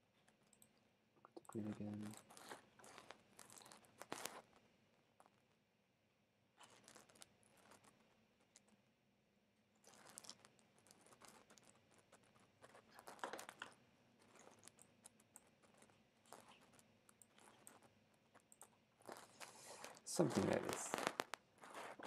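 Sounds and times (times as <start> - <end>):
faint keyboard typing: 0.0 - 5.5, 6.6 - 8.8, 9.8 - 22.0.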